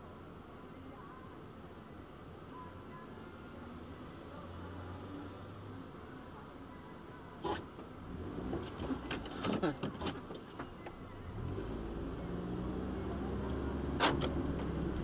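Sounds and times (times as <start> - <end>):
car engine hum from inside: 0.0 - 15.0.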